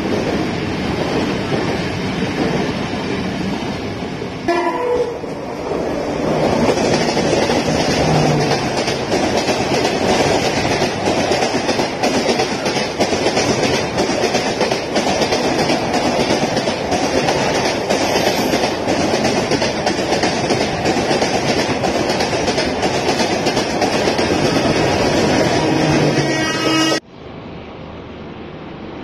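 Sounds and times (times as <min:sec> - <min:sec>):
train wheels rushing on rails: 0:00.0 - 0:27.6.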